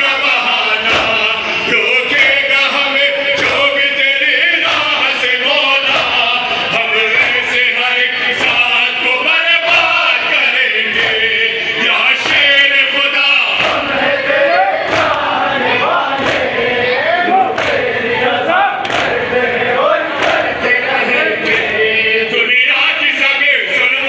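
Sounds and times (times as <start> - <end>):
crowd beating chests: 0.0 - 22.6
men chanting together: 0.0 - 24.0.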